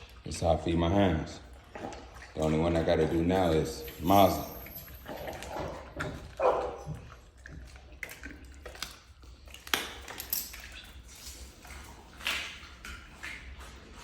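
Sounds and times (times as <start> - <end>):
dog chewing food: 0.0 - 14.0.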